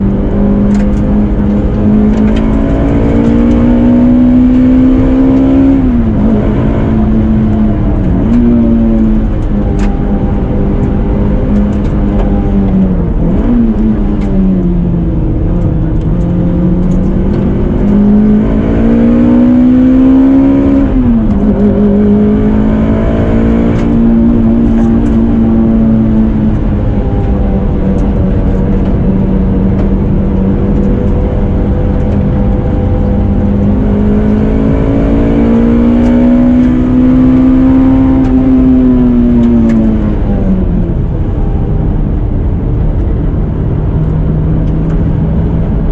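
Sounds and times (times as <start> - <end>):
car engine running loudly: 0.0 - 45.9.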